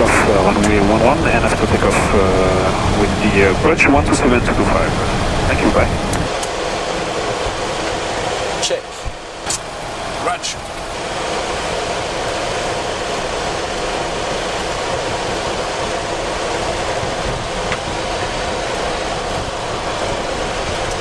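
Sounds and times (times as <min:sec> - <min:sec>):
aircraft engines at low power: 0:00.0 - 0:21.0
cockpit air conditioning hiss: 0:00.0 - 0:21.0.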